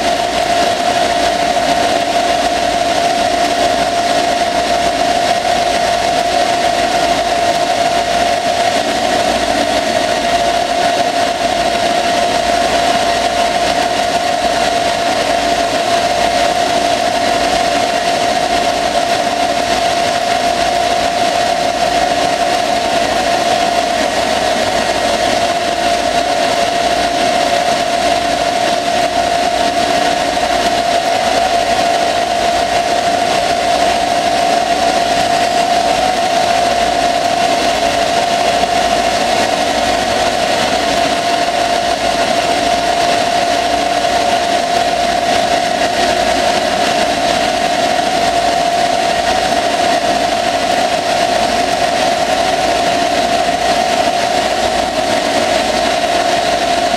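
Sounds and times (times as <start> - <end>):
lathe spindle whine: 0.0 - 56.9.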